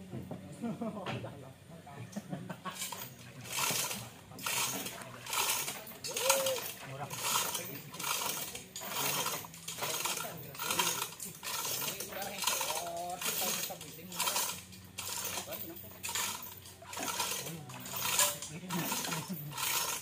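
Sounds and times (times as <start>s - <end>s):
steel chain rattling and clinking: 2.7s - 20.0s.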